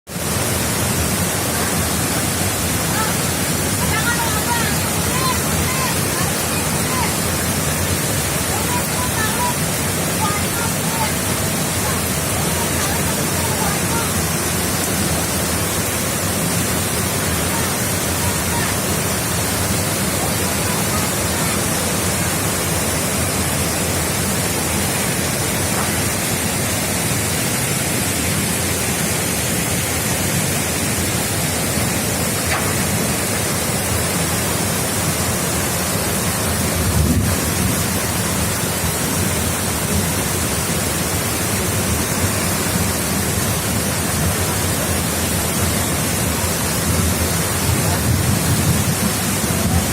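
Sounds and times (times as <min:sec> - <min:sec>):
waterfall rushing: 0:00.1 - 0:49.9.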